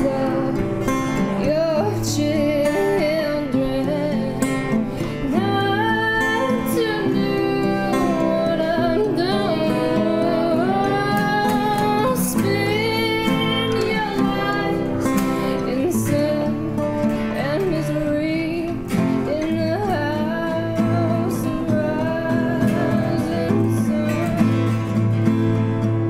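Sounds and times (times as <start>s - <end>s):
woman singing: 0.0s - 25.1s
acoustic guitar strumming: 0.0s - 26.0s.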